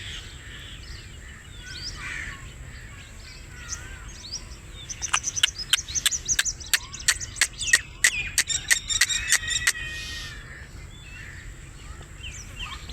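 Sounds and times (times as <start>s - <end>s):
birds clicking and chirping: 1.3s - 12.9s.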